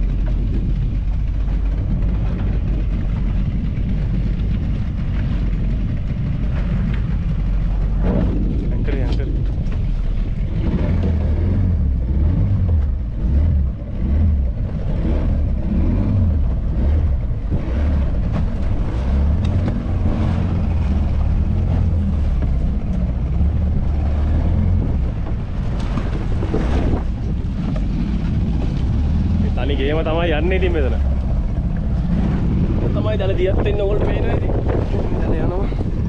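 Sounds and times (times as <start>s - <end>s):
outboard motor running: 0.0s - 36.0s
water rushing past hull: 0.0s - 36.0s
wind buffeting microphone: 0.0s - 36.0s.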